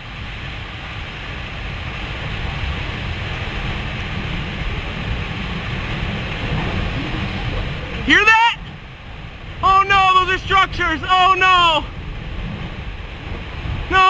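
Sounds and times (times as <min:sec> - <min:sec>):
tornado roaring: 0:00.0 - 0:14.0
wind buffeting microphone: 0:00.0 - 0:14.0.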